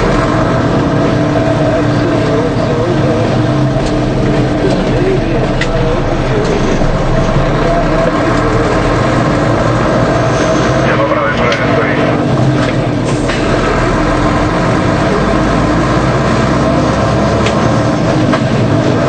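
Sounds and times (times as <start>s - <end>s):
lorry diesel engine running: 0.0s - 19.0s
road noise: 0.0s - 19.0s.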